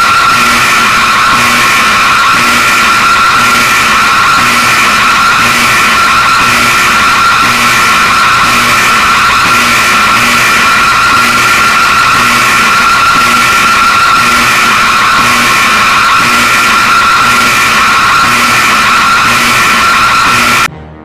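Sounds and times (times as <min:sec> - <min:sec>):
harsh distorted electronic alarm tone: 0:00.0 - 0:20.7.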